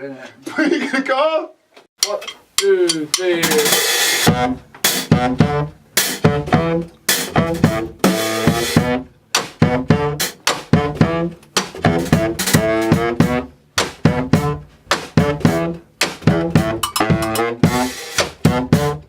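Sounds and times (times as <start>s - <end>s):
brass band playing staccato: 3.4s - 19.0s.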